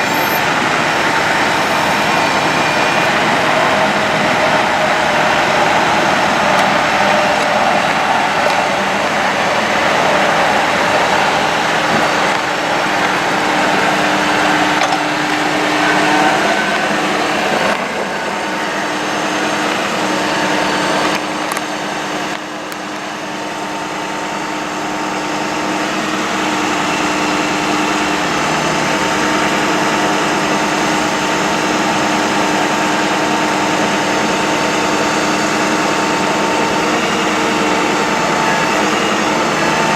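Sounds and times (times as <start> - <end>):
hydraulic mechanical hum with tone: 0.0 - 39.9
truck engine running: 0.0 - 39.9.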